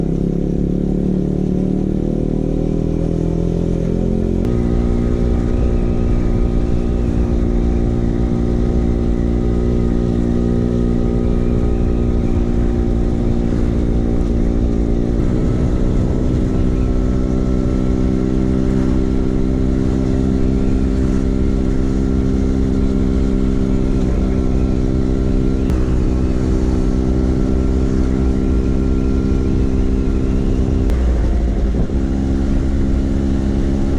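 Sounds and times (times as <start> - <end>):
scooter engine running: 0.0 - 33.9.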